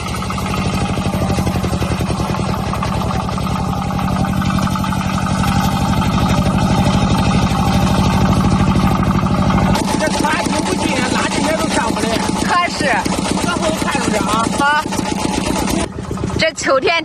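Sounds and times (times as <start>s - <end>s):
tractor diesel engine chugging: 0.0s - 17.0s.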